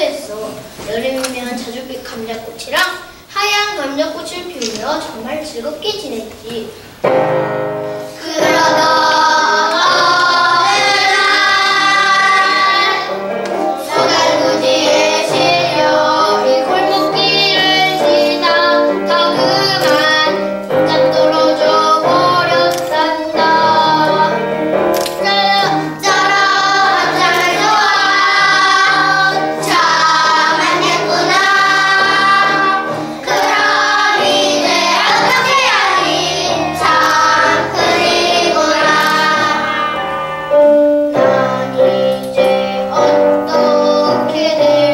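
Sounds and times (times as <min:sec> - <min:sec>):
piano accompaniment: 0:06.8 - 0:44.9
children singing: 0:08.1 - 0:44.9.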